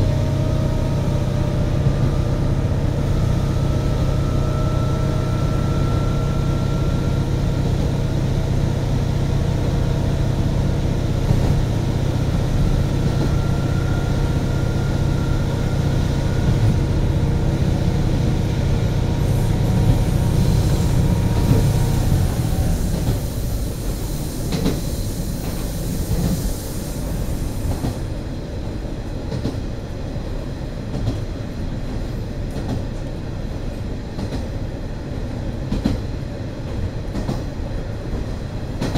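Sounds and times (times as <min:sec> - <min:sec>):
rail joint clicks: 0:05.1 - 0:38.9.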